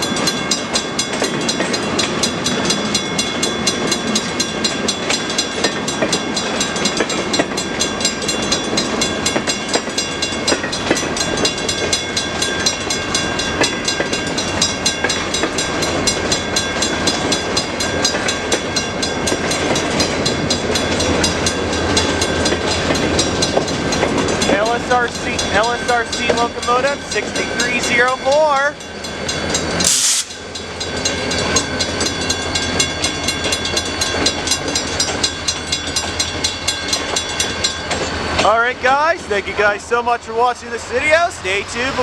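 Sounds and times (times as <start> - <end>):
train wheels clicking over rail joints: 0.0 - 40.1
crossing signal bells ringing: 0.0 - 42.0
diesel locomotive engine: 0.0 - 42.0.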